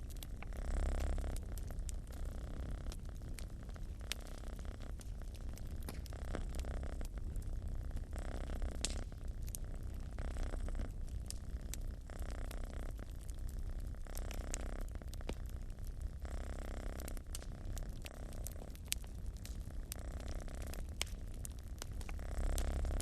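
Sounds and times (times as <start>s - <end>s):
cat purring: 0.0s - 23.0s
wood fire crackling and popping: 0.0s - 23.0s.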